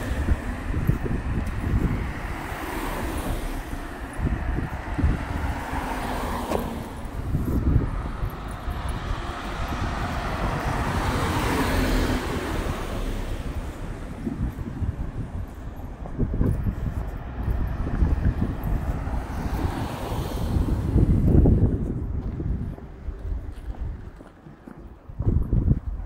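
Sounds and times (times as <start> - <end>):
cars passing: 0.0 - 26.0
low traffic rumble: 0.0 - 26.0.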